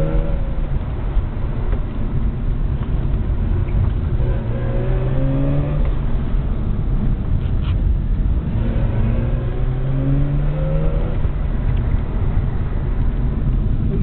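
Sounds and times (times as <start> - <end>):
car engine accelerating: 0.0 - 14.0
road and wind rumble: 0.0 - 14.0.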